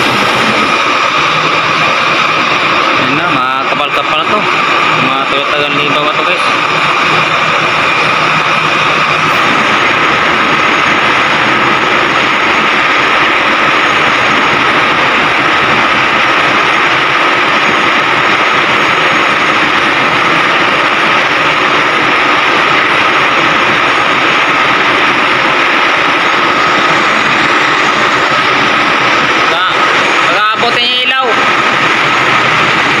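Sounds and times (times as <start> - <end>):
machinery droning: 0.0 - 33.0.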